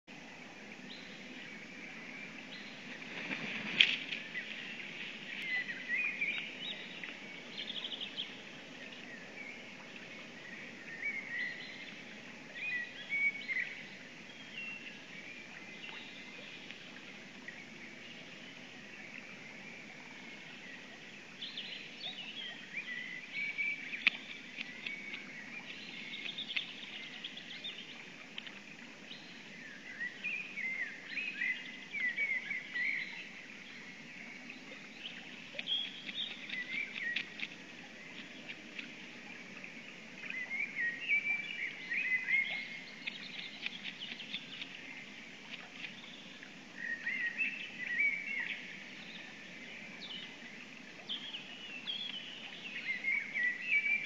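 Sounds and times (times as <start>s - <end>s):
microphone background hiss: 0.1s - 54.0s
songbird chirping: 0.2s - 54.0s.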